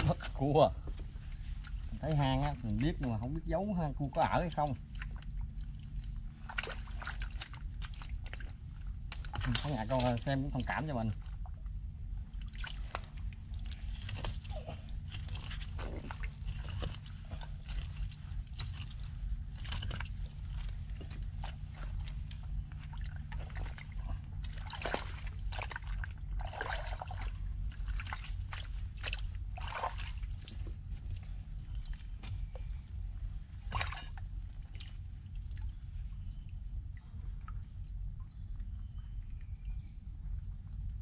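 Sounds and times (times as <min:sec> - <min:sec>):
wet mud squelching: 0:00.0 - 0:37.5
steady low rumble: 0:00.0 - 0:41.0.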